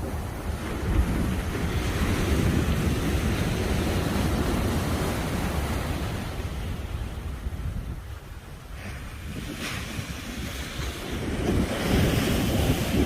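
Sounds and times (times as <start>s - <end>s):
sea waves washing ashore: 0.0s - 13.0s
wind rumbling on microphone: 0.0s - 13.0s.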